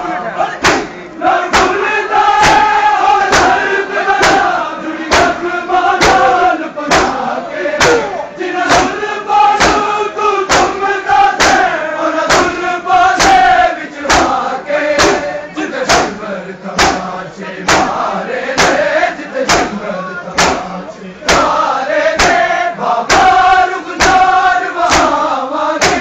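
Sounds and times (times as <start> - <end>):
chanting of a lament: 0.0 - 26.0
men slapping chests in unison: 0.6 - 26.0.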